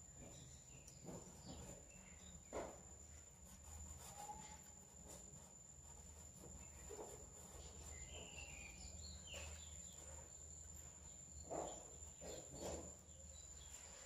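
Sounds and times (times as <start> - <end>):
faint chirps: 0.1 - 14.0.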